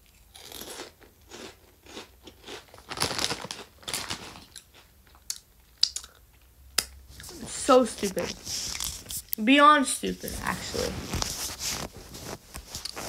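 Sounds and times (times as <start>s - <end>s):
person chewing potato chips: 0.0s - 6.5s, 7.2s - 9.4s, 11.0s - 13.0s.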